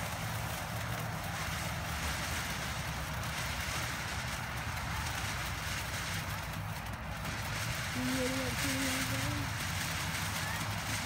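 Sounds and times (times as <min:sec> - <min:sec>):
firework fountain hissing: 0:00.0 - 0:11.0.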